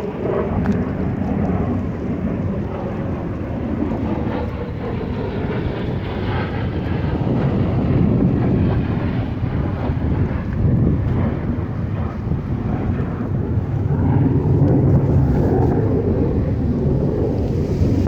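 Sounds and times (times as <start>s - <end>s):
aircraft engine rumble: 0.0s - 18.0s.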